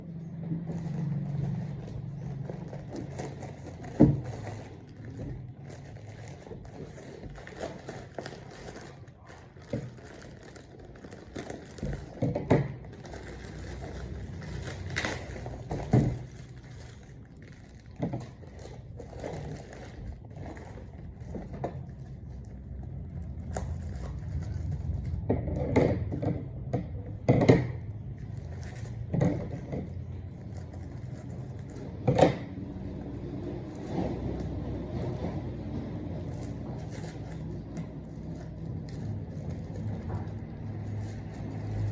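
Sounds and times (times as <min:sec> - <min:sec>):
plastic packaging crinkling: 0:00.1 - 0:25.2, 0:27.8 - 0:41.9.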